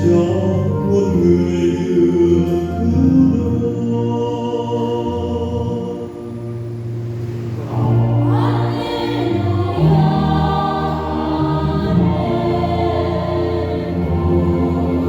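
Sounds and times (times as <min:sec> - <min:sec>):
church choir singing a hymn: 0:00.0 - 0:15.0.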